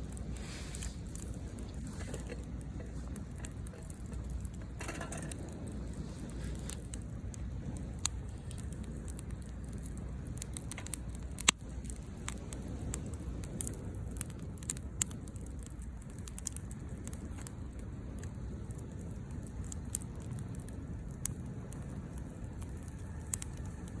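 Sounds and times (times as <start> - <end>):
firewood crackling and popping: 0.0 - 24.0
low rumble: 0.0 - 24.0.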